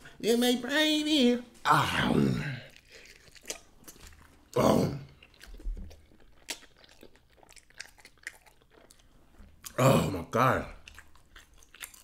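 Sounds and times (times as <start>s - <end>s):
crunching of fried chicken: 2.0s - 12.0s.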